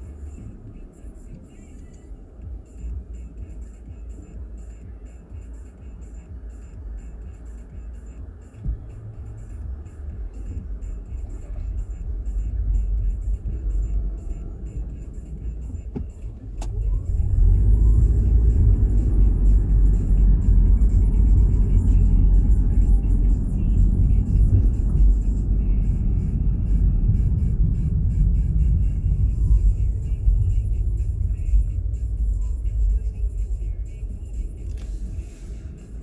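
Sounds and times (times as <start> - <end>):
car engine and road rumble: 0.0 - 36.0.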